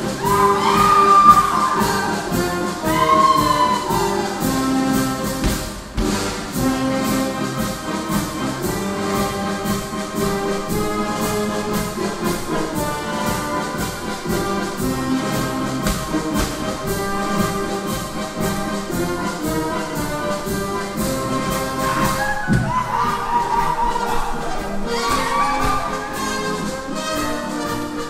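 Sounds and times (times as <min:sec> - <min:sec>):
brass band playing dance music: 0:00.0 - 0:28.0.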